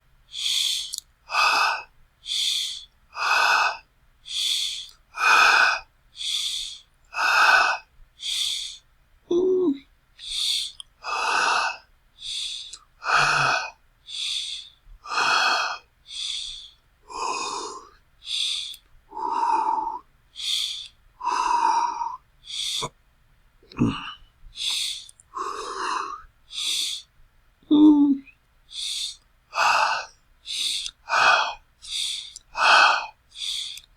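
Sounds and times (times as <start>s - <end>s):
person panting hard: 0.3s - 8.8s, 10.2s - 23.0s, 24.5s - 27.1s, 28.7s - 33.9s.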